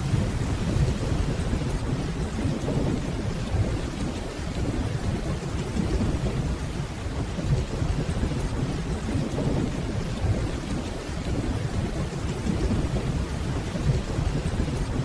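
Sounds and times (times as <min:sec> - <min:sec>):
distant rolling thunder: 0:00.0 - 0:15.0
steady rainfall: 0:00.0 - 0:15.0.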